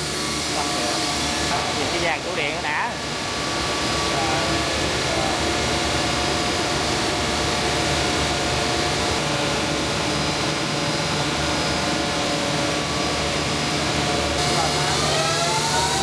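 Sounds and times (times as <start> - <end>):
machine rushing whir: 0.0 - 16.0.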